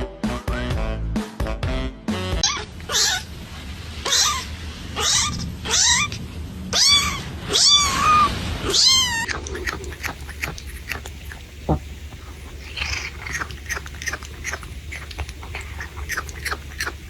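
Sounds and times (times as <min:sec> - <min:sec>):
cat meowing: 0:02.4 - 0:03.3, 0:04.0 - 0:17.0.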